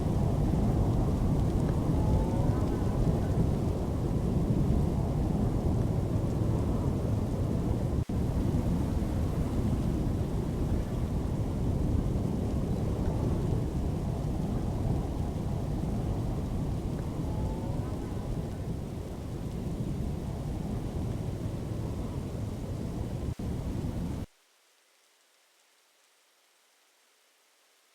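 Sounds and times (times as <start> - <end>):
deep thunder rumble: 0.0 - 24.3
rain: 0.0 - 27.9.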